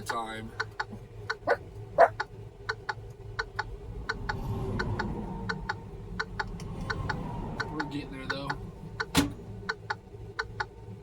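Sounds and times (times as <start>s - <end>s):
low steady hum: 0.0s - 11.0s
regular ticking: 0.0s - 11.0s.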